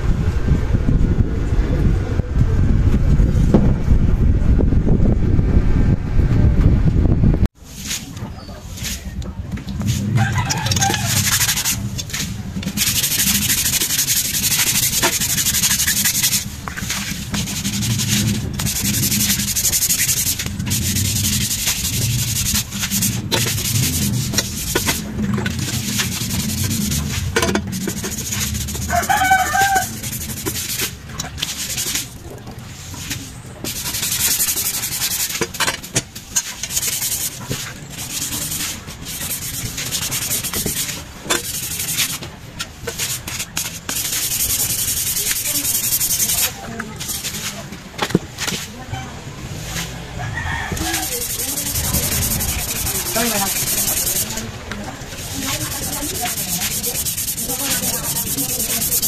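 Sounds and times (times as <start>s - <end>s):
abrasive sanding: 7.6s - 32.2s, 32.8s - 47.7s, 50.7s - 59.0s.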